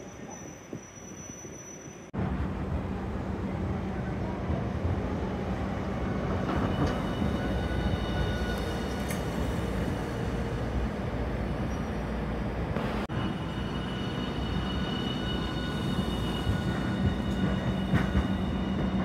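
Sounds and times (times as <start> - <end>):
tram wheels rumbling on rail: 0.0 - 19.0.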